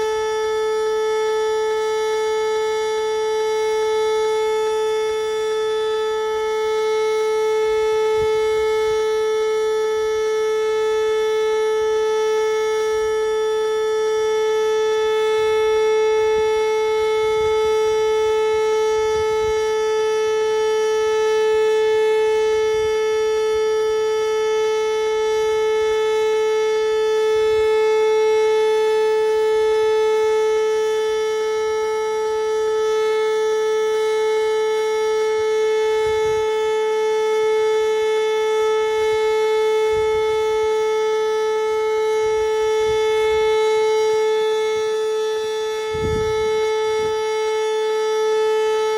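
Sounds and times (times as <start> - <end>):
warning siren steady tone: 0.0 - 48.9.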